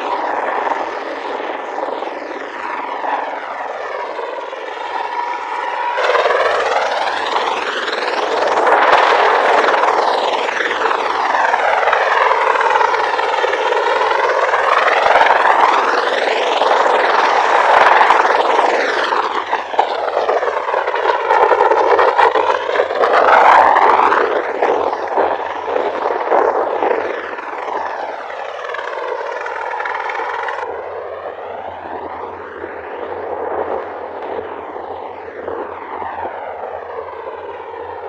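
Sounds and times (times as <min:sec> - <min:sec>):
tiltrotor aircraft roaring: 0:00.0 - 0:38.0.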